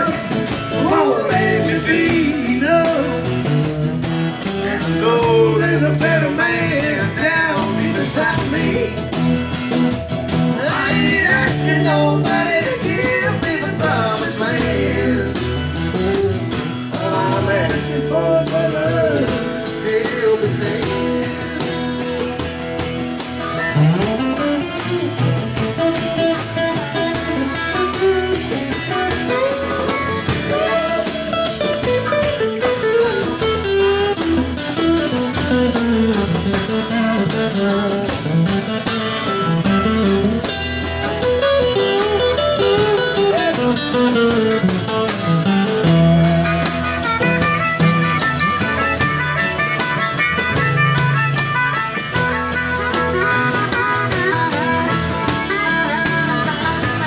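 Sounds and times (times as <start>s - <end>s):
guitar lead line bending: 0.0s - 57.0s
live band playing instrumental: 0.0s - 57.0s.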